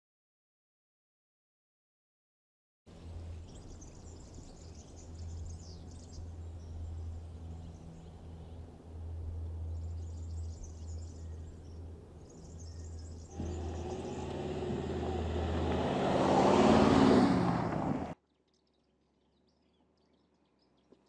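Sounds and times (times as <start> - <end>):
birds chirping: 3.0 - 21.0.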